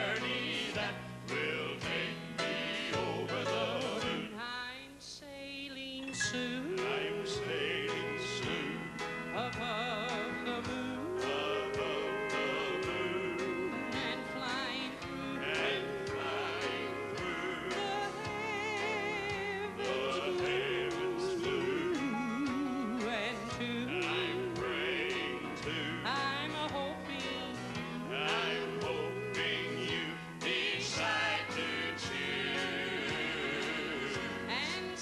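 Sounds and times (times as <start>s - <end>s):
male vocal quartet singing: 0.0s - 4.4s, 6.1s - 35.0s
band accompaniment: 6.2s - 35.0s.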